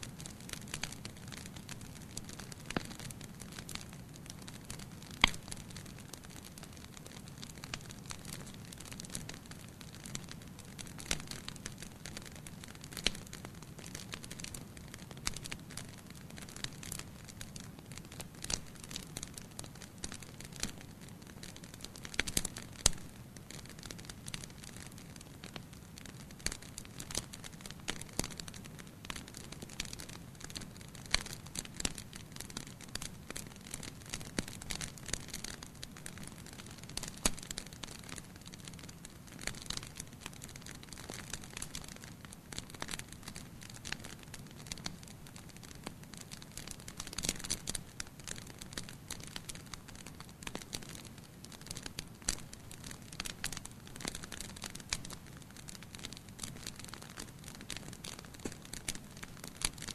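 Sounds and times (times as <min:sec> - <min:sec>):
fire popping and snapping: 0:00.0 - 0:59.9
wood fire crackling: 0:00.0 - 0:59.9.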